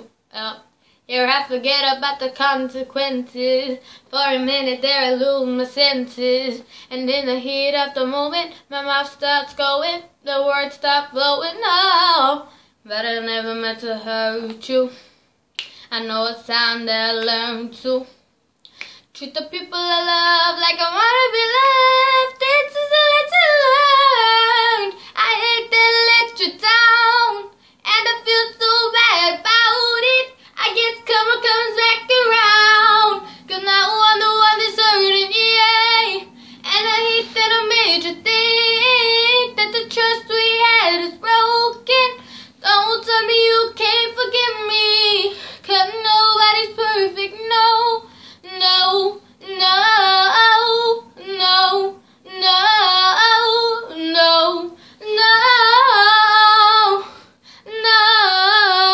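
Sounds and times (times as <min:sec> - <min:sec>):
girl singing a pop ballad: 0:00.0 - 0:58.9.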